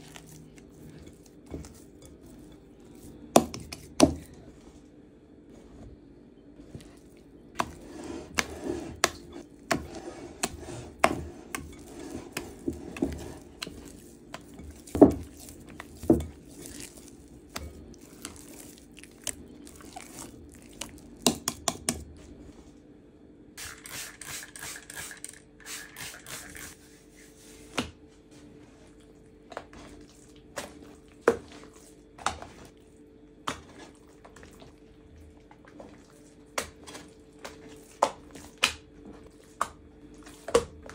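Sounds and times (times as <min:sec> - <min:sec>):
hands kneading wet dough: 0:00.0 - 0:06.0, 0:06.6 - 0:22.6, 0:26.4 - 0:40.9.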